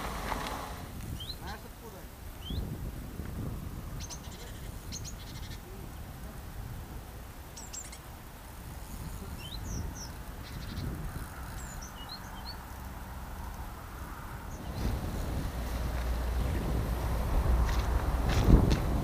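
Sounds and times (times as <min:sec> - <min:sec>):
wind rumbling on microphone: 0:00.0 - 0:19.0
small birds chirping: 0:01.0 - 0:02.8, 0:03.8 - 0:06.4, 0:07.0 - 0:13.7, 0:14.4 - 0:18.6.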